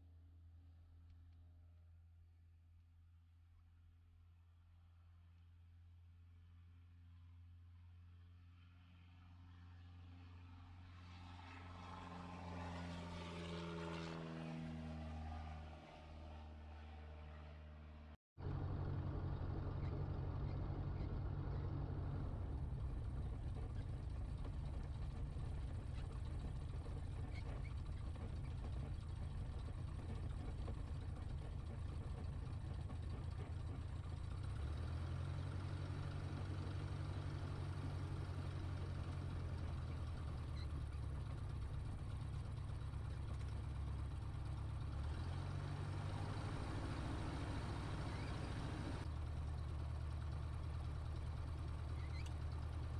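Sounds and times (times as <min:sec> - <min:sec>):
light aircraft engine and propeller: 0:03.5 - 0:52.9.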